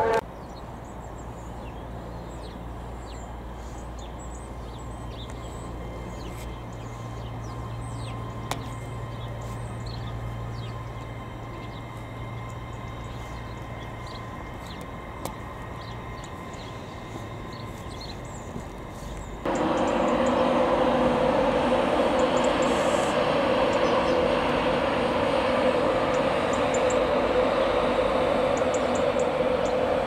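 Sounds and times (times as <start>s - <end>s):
birds chirping: 0.0s - 30.0s
diesel train engine hum: 0.0s - 30.0s.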